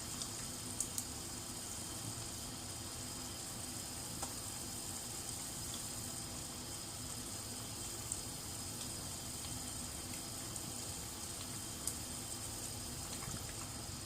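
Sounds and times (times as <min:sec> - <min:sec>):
food hissing on a stove: 0:00.0 - 0:14.0.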